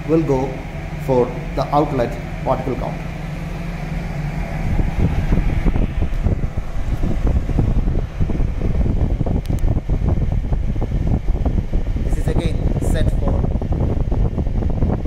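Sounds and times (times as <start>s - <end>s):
air filter fan airflow rushing: 0.0s - 15.0s
wind buffeting microphone: 0.0s - 15.0s.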